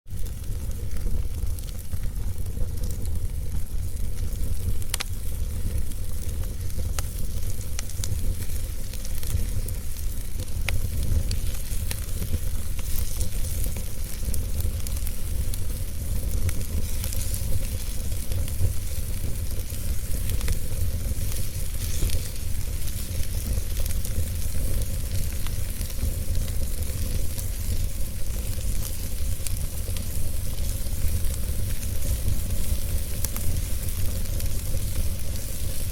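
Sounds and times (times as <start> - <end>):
fire crackling: 0.1 - 35.9.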